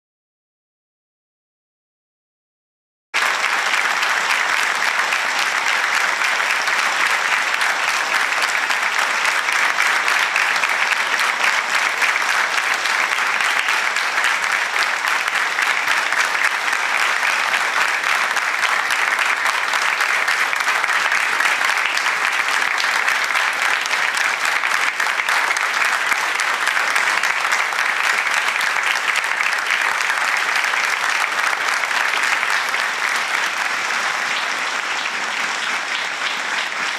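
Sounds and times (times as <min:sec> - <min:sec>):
applause: 0:03.1 - 0:36.9.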